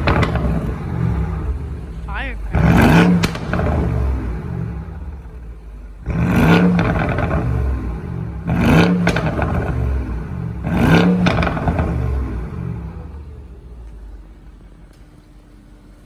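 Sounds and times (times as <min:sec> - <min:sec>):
exhaust pops: 0:00.0 - 0:14.2
car engine revving: 0:00.0 - 0:14.4.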